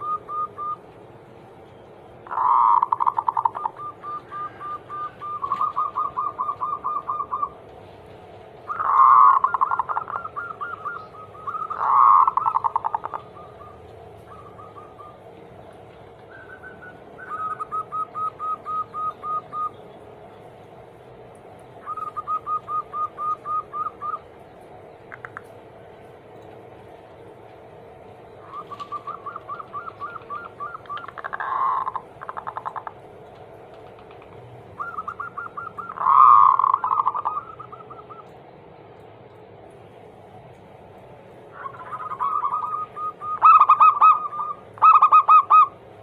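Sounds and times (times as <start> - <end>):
doves staccato cooing: 0.0 - 19.8, 21.6 - 38.5, 41.3 - 46.0.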